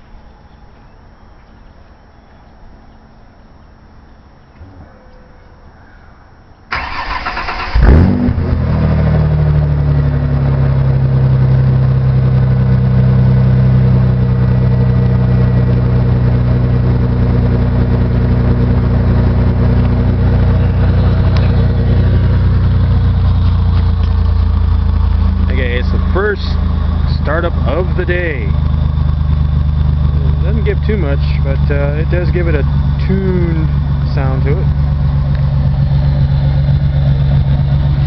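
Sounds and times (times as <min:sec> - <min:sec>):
engine catching and idling: 0:06.7 - 0:38.0.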